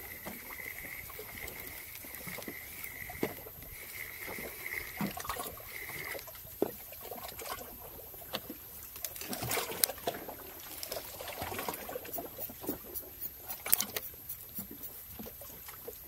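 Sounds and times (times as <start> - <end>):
faint steady tone: 0.0 - 16.0
water trickling and splashing: 0.0 - 16.0.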